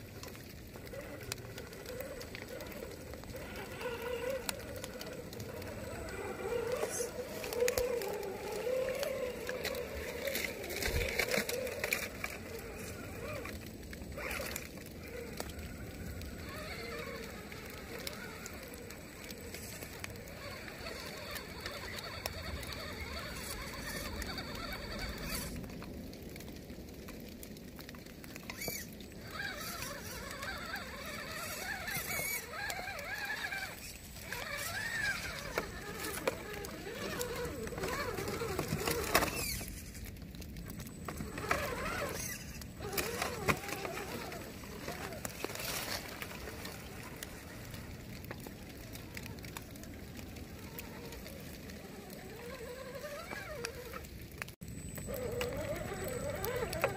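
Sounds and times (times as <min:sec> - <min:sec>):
rc car motor whining: 0:00.0 - 0:26.1, 0:28.4 - 0:56.9
twigs crackling under tyres: 0:00.0 - 0:56.9.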